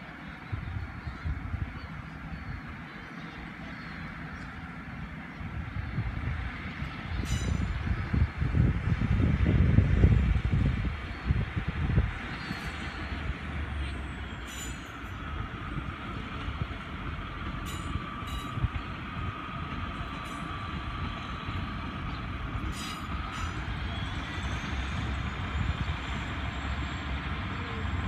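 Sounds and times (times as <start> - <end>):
distant diesel train rumble: 0.0 - 28.0.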